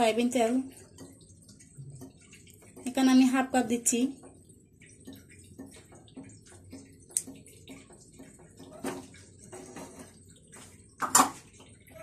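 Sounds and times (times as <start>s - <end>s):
oil pouring into a pot: 0.0s - 12.0s.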